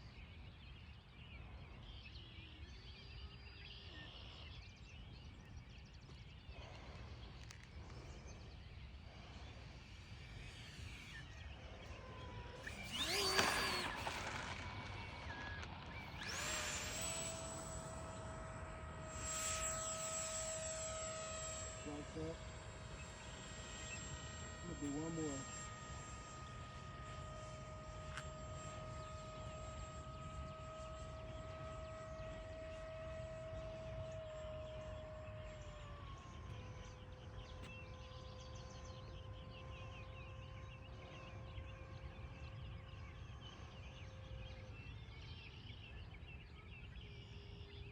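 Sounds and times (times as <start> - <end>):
electric ducted fans whining: 0.0 - 47.9.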